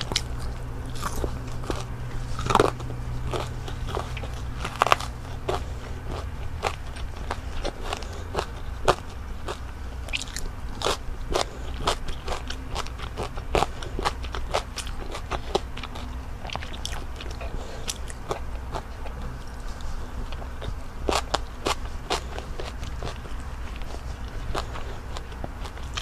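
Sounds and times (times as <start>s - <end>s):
chewing crunchy food: 0.0s - 26.0s
steady low hum: 0.0s - 26.0s.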